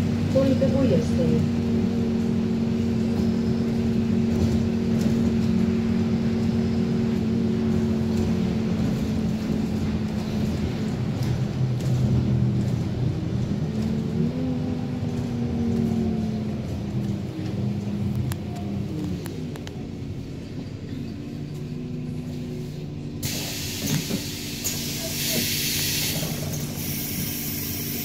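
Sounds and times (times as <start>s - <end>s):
bus engine humming and rumbling: 0.0s - 28.0s.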